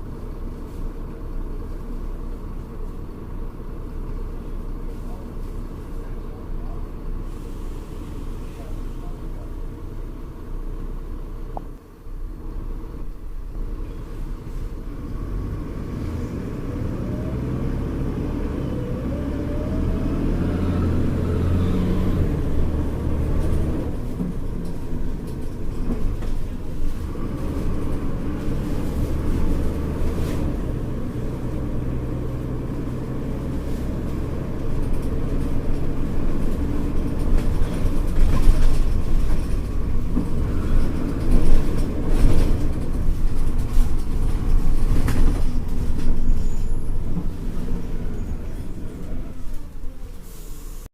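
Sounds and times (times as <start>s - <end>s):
bus engine low rumble: 0.0s - 50.9s.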